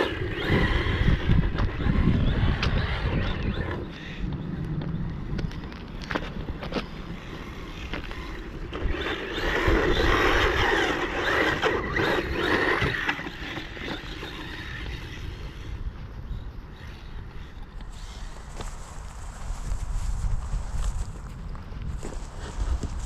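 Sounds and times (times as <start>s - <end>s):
rc truck motor whining: 0.0s - 19.6s
tyres rasping over ground: 0.0s - 23.0s
wind on microphone: 0.0s - 23.0s.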